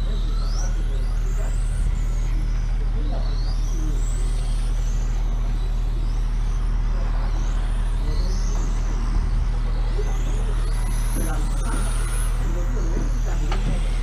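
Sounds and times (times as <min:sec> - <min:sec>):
motorcycle engines revving: 0:00.0 - 0:14.0
steady low hum: 0:00.0 - 0:14.0.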